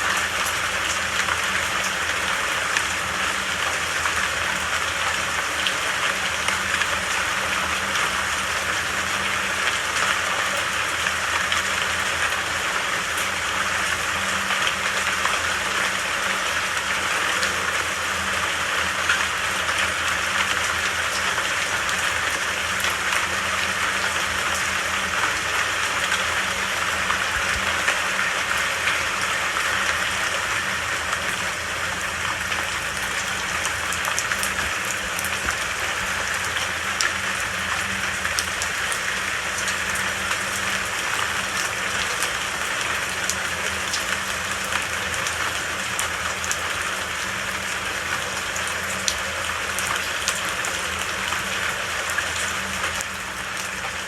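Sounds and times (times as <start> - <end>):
steady rain with drop ticks: 0.0 - 54.0.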